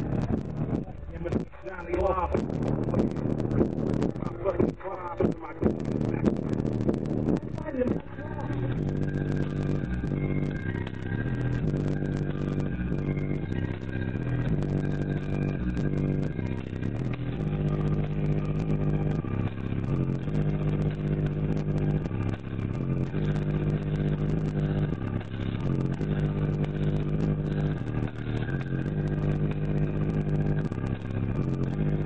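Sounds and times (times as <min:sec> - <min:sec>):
deep bass note from subwoofers: 0:00.0 - 0:32.0
quick ticking beats: 0:00.0 - 0:32.0.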